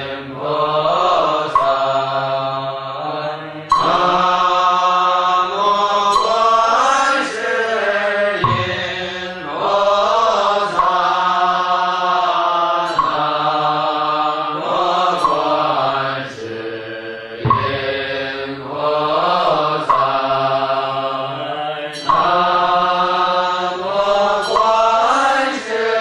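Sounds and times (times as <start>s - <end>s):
group chanting in unison: 0.0s - 26.0s.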